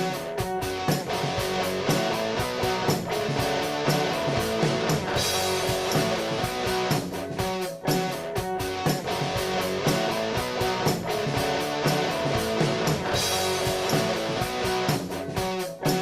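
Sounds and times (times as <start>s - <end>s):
drum kit beat: 0.0s - 16.0s
guitar-led instrumental music: 0.0s - 16.0s.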